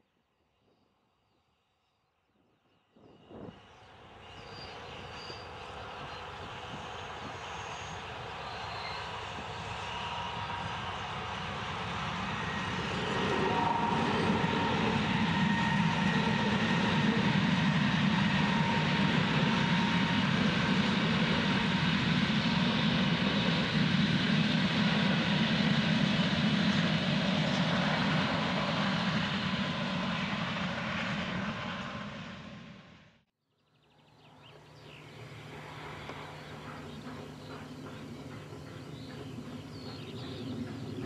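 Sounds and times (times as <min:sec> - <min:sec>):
diesel locomotive running: 0:03.8 - 0:32.6, 0:34.3 - 0:41.0.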